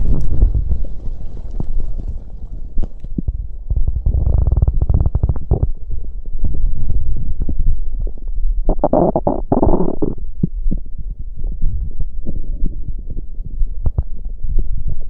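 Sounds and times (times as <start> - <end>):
stomach rumbling and gurgling: 0.0 - 15.0.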